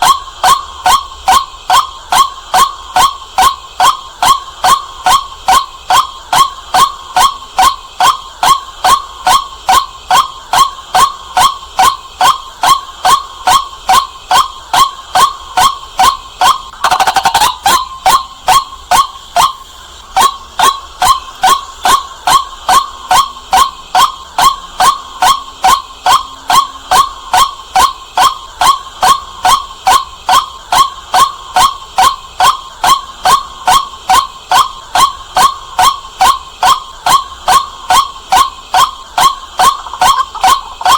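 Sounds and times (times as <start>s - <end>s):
waterhen calling: 0.0s - 40.9s.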